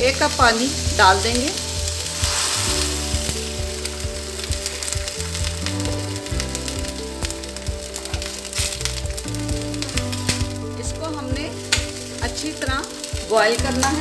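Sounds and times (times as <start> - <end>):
background music: 0.0 - 14.0
chicken sizzling in hot oil: 0.0 - 14.0.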